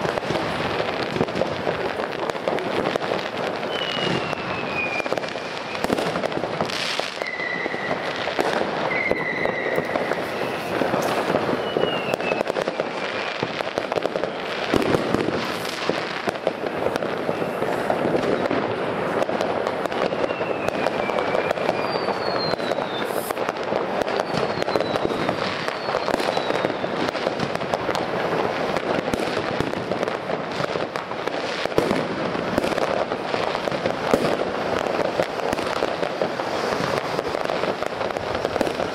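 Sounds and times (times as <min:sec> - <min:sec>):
firework bangs: 0:00.0 - 0:38.9
fireworks crackling and popping: 0:00.0 - 0:38.9
firework falling whistles: 0:03.5 - 0:29.7, 0:30.6 - 0:38.9.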